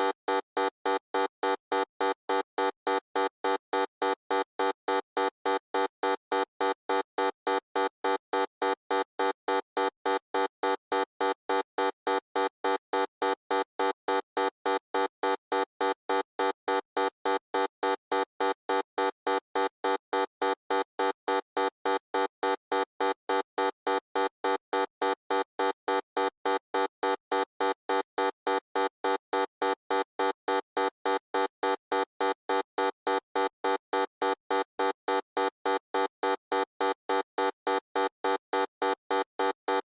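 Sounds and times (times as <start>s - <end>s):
electronic buzzer beeping: 0.0s - 39.9s.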